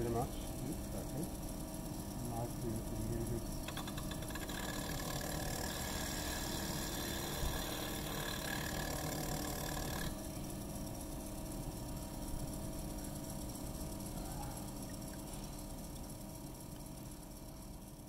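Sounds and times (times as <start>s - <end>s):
lathe motor hum: 0.0s - 17.9s.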